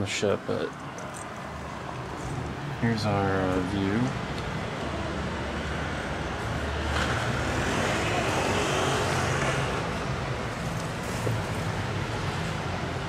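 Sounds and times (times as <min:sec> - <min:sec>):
city traffic hum: 0:00.0 - 0:13.0
vehicle passing: 0:00.4 - 0:13.0.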